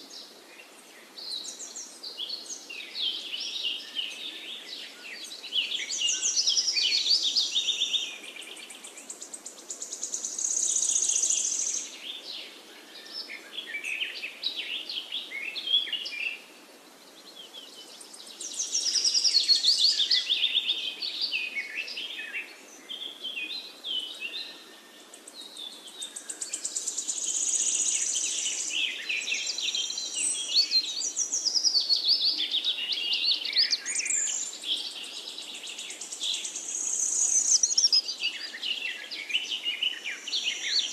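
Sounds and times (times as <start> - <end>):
faint steady hiss: 0.0 - 40.9
songbird chirps and trills: 0.0 - 40.9.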